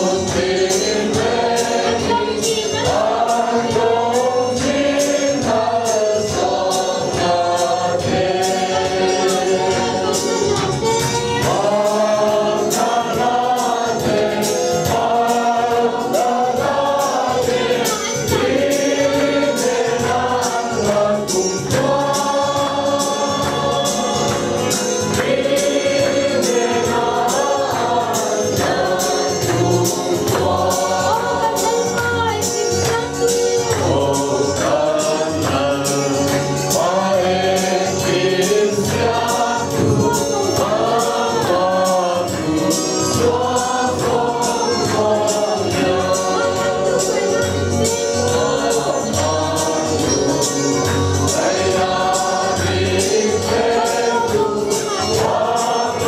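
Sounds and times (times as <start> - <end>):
congregation singing a hymn: 0.0 - 56.0
steady percussion beat: 0.0 - 56.0.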